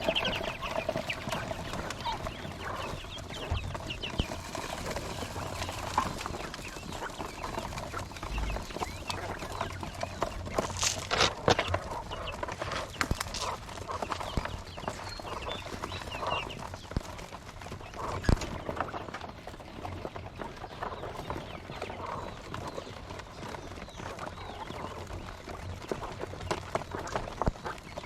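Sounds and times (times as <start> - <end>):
quail chirping and calling: 0.0 - 28.0.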